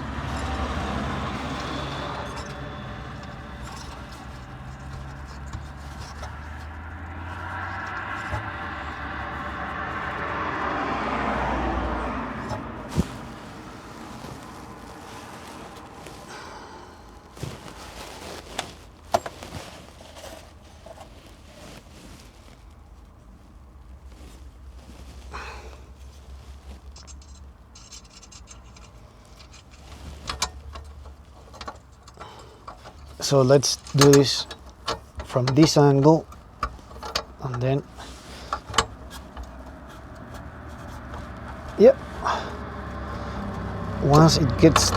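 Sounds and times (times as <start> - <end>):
hand tools clicking and scraping: 0.0 - 22.3, 25.0 - 44.9
vehicle passing rumble: 0.0 - 44.9.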